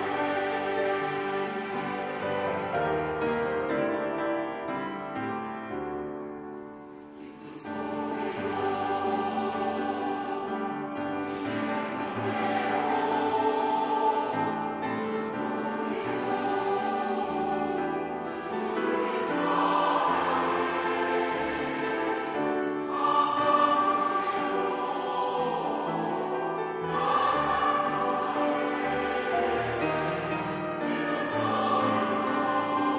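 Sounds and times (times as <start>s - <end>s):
mixed choir singing: 0.0s - 5.8s, 6.9s - 32.9s.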